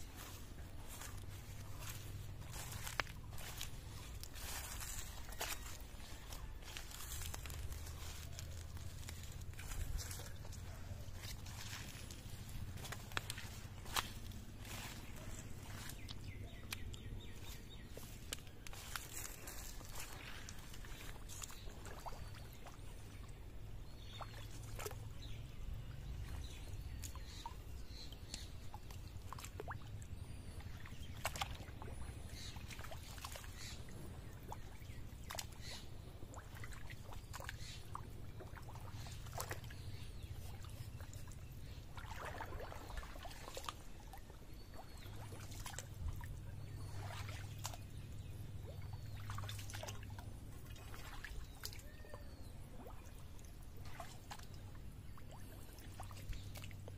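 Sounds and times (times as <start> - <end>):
steady low hum: 0.0 - 51.8
water trickling and splashing: 0.0 - 56.9.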